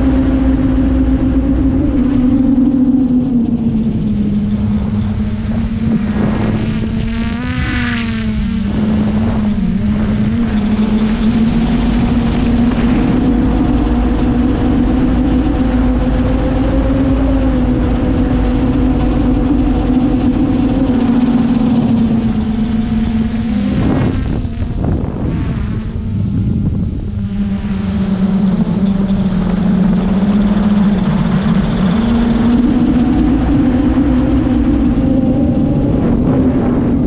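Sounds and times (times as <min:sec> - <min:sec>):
drone propellers buzzing: 0:00.0 - 0:37.0
wavering higher tone: 0:00.0 - 0:37.0
wind rumble on microphone: 0:00.0 - 0:37.0.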